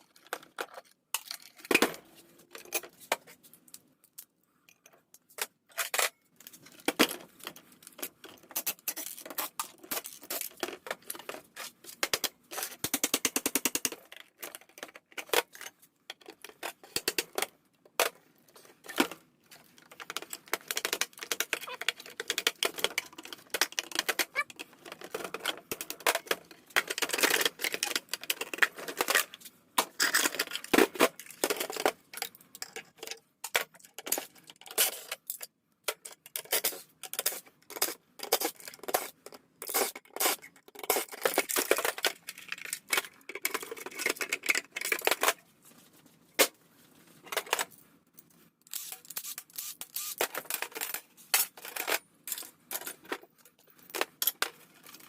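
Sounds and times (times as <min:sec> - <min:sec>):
hand tools and metal parts rattling: 0:00.0 - 0:45.4, 0:47.2 - 0:55.0.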